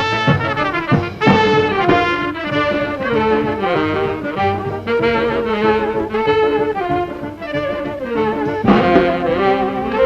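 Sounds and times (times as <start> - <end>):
brass band music: 0.0 - 10.0.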